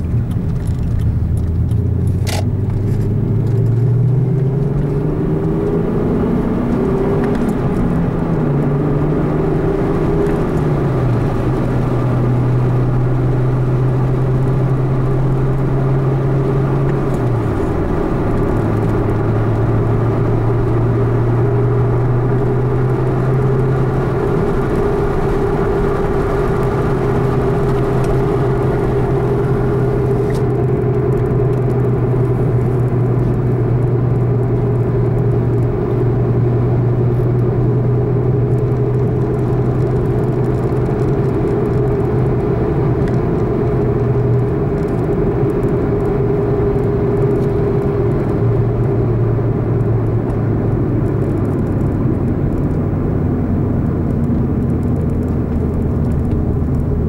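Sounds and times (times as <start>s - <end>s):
car engine humming: 0.0s - 57.0s
road and tyre noise: 0.0s - 57.0s.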